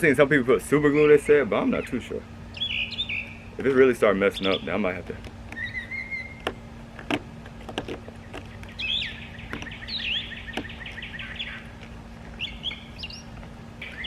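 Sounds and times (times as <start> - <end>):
songbird trilling chirps: 0.0 - 6.7, 7.9 - 14.0.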